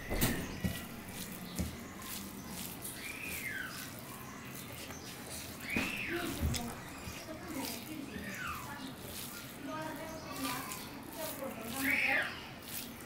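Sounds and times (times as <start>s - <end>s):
bird chirp: 0.0s - 13.0s
fingers mixing food on steel plate: 0.0s - 13.0s.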